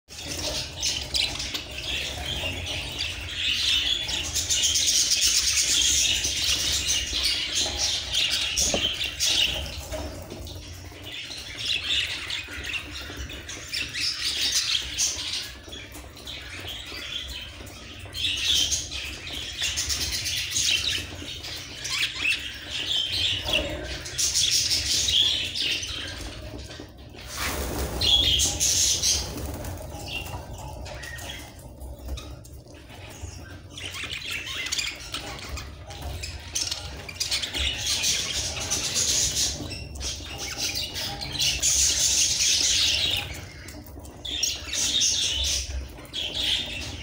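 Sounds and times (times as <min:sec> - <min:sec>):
budgerigars chattering and chirping: 0:00.2 - 0:47.0.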